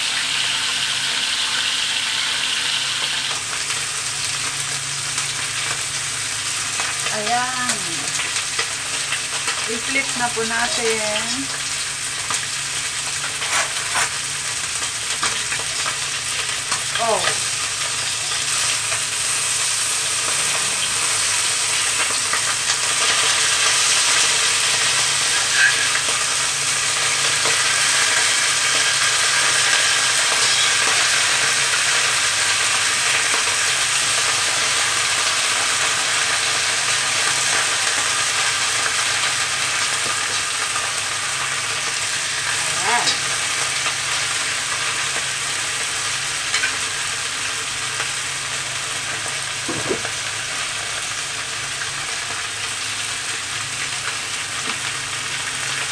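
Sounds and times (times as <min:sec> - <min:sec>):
fish sizzling in hot oil: 0:00.0 - 0:55.9.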